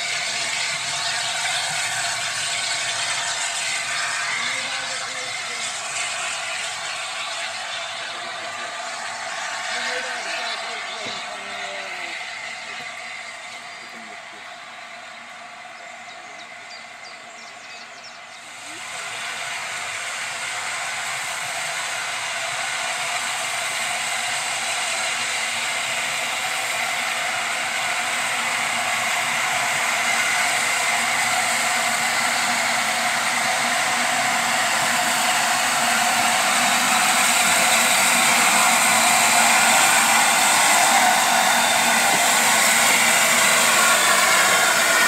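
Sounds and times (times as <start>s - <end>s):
steam hissing: 0.0s - 45.0s.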